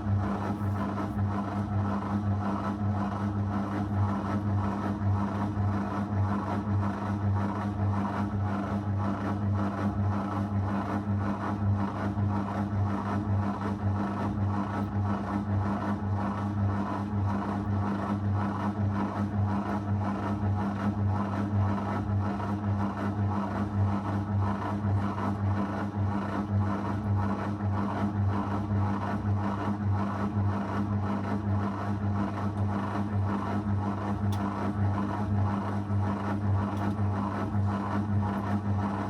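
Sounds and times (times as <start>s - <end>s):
washing machine running: 0.0s - 39.0s.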